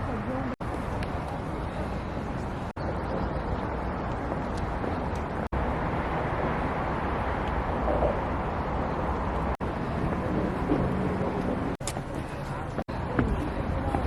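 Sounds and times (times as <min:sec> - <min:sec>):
passing traffic: 0:00.0 - 0:14.0.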